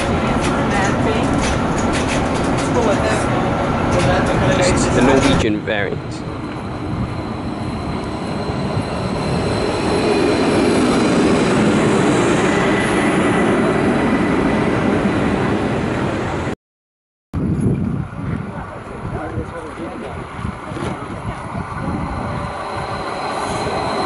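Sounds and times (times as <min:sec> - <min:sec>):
electric train rumbling: 0:00.0 - 0:16.6, 0:17.4 - 0:24.0.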